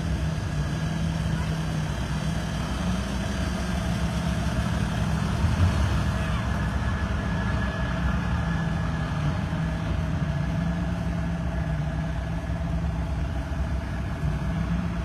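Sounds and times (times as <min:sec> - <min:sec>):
tractor and truck engines droning: 0:00.0 - 0:15.0.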